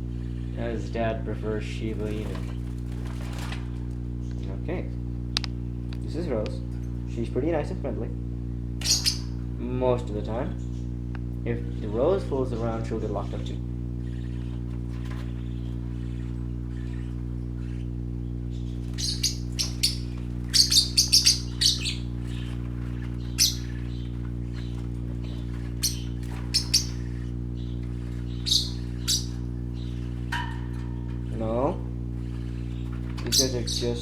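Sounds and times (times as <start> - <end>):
parakeets chirping: 0.0 - 34.0
steady low hum: 0.0 - 34.0.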